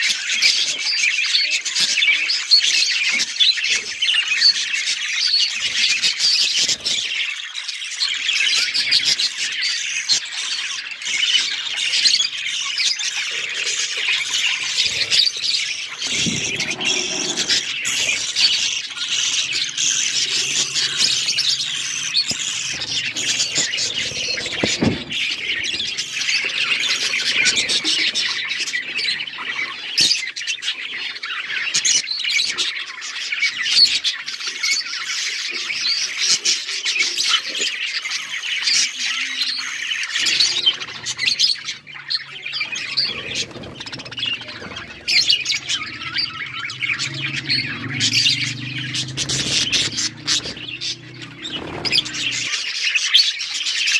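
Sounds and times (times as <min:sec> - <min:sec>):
budgerigars chattering and warbling: 0:00.0 - 0:53.9.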